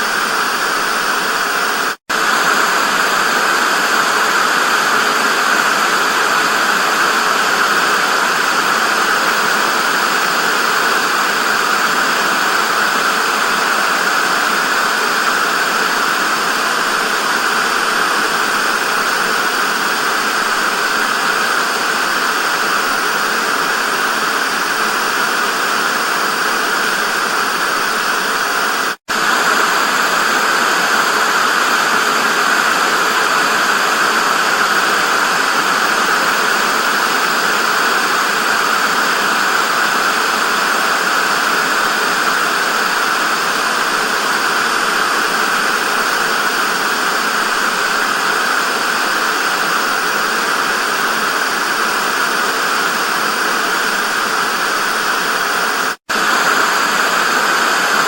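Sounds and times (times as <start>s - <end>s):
television static hiss: 0.0s - 58.0s.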